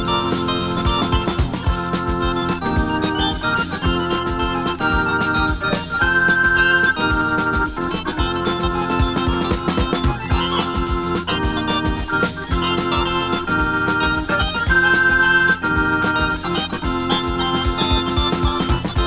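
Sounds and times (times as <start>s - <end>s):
electronic organ chords: 0.0s - 19.0s
steady drum beat: 0.0s - 19.0s.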